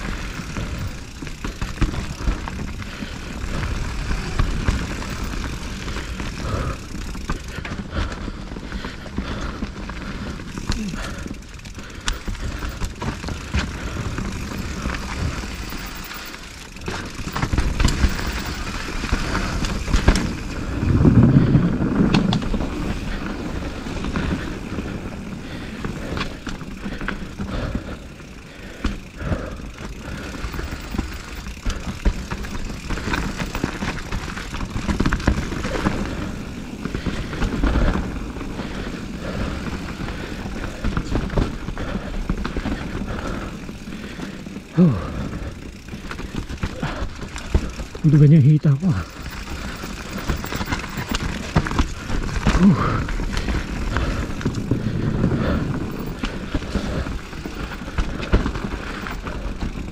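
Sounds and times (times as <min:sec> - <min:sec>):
bike clattering over bumps: 0:00.0 - 0:48.2, 0:49.0 - 0:59.9
bike tyres rolling on dirt: 0:00.0 - 0:59.9.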